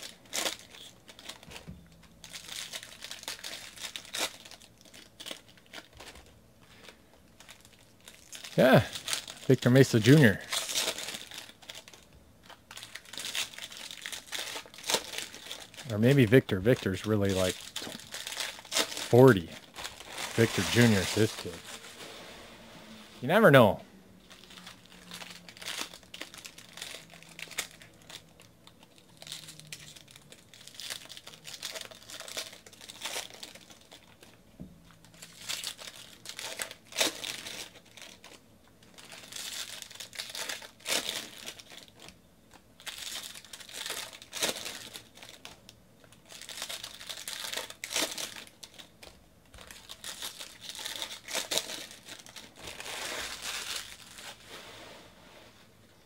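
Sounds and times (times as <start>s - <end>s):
foil wrappers crinkling and tearing: 0.0s - 22.0s, 23.6s - 54.6s.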